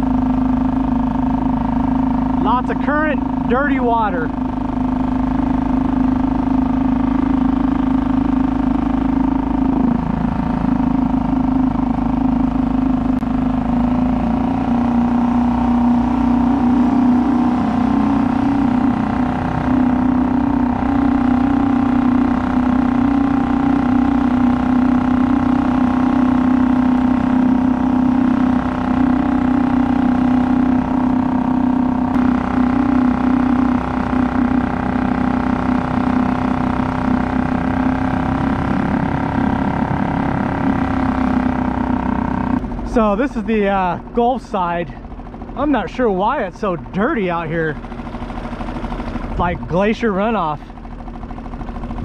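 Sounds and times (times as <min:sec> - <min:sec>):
small boat motor running: 0:00.0 - 0:52.0.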